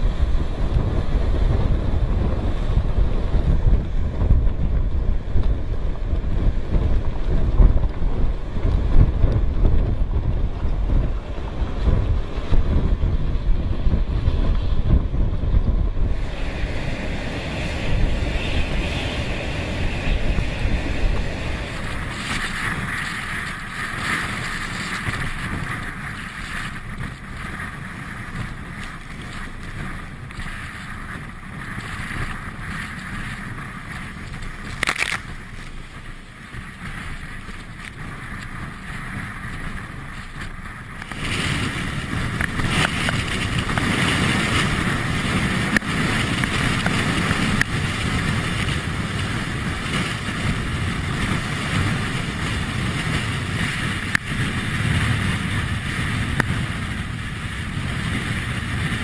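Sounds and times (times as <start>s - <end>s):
surf breaking on rocks: 0.0s - 59.0s
wind buffeting microphone: 0.0s - 59.0s.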